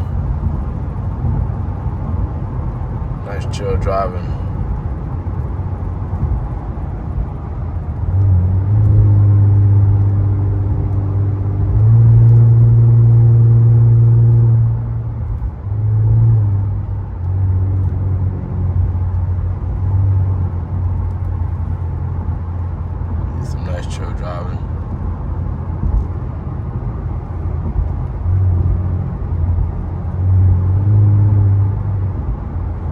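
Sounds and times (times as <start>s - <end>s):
car exhaust droning in cabin: 0.0s - 32.9s.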